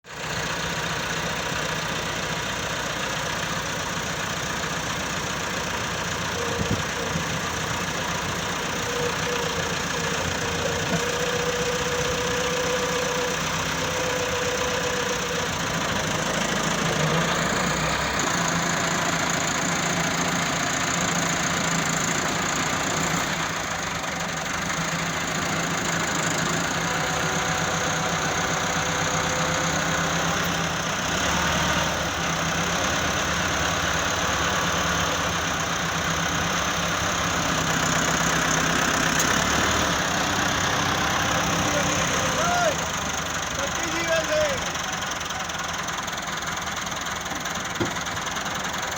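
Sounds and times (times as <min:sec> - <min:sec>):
construction machinery engines: 0:00.0 - 0:48.9.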